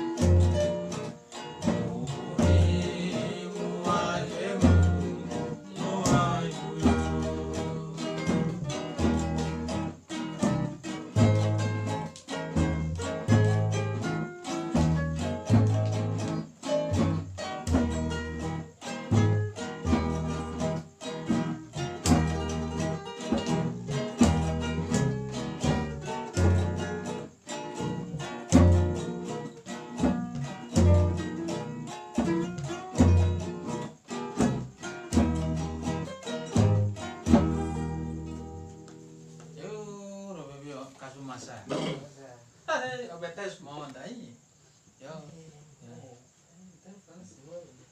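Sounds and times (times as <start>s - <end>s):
plucked wooden box bass: 0.0s - 39.1s
guitar and ukuleles strummed: 0.0s - 39.8s.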